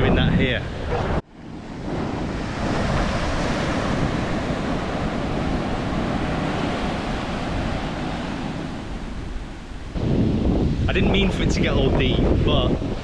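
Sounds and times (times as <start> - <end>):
ocean surf breaking on beach: 0.6 - 13.0.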